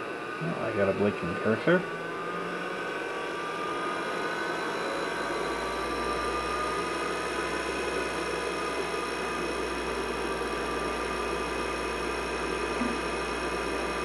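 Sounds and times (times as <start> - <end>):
computer fan and disk whine: 0.0 - 14.0.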